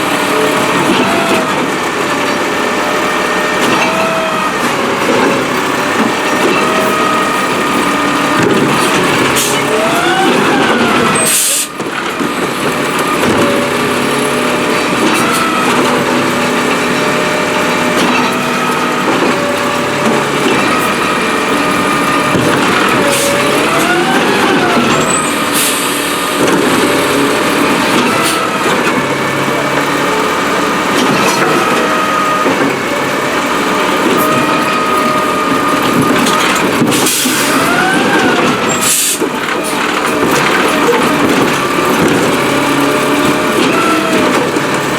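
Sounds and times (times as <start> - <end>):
hydraulic whining tones: 0.0 - 44.9
truck engine running: 0.0 - 44.9.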